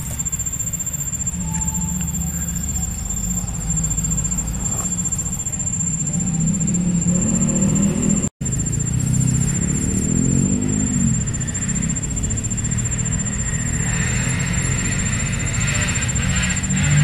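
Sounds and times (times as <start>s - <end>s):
thin high-pitched whine: 0.0s - 17.0s
vehicle engine running: 0.0s - 17.0s.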